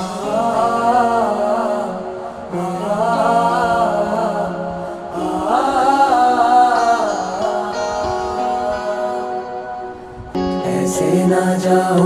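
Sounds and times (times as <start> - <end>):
sustained musical accompaniment: 0.0 - 12.0
wordless sung melody: 0.0 - 12.0.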